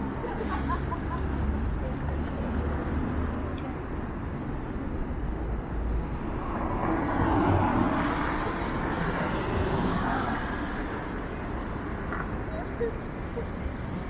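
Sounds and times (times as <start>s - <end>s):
passing vehicle: 0.0s - 14.0s.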